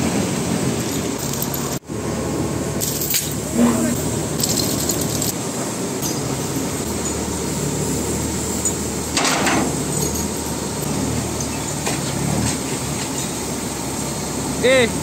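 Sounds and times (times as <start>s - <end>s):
low rumble of machinery: 0.0s - 15.0s.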